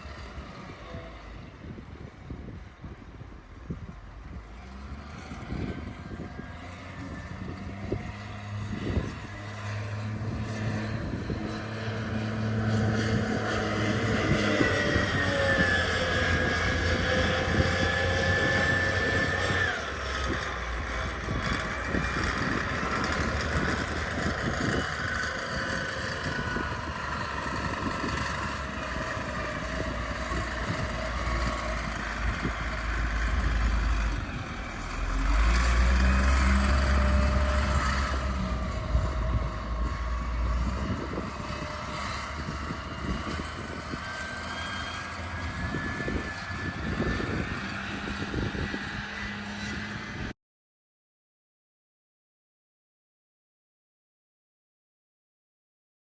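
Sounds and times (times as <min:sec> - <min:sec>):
motor engine running: 0:00.6 - 0:50.3.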